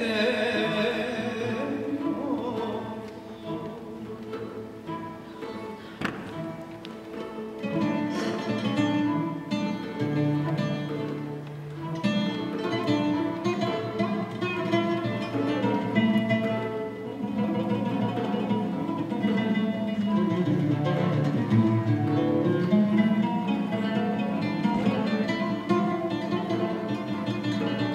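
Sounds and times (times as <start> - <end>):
bowed cello: 0.0 - 27.9
plucked strings: 0.0 - 27.9.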